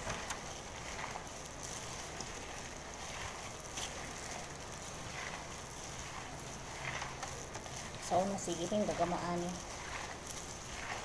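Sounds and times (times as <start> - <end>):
steady hiss: 0.0 - 11.0
wet squelches of kneading meat: 0.0 - 11.0.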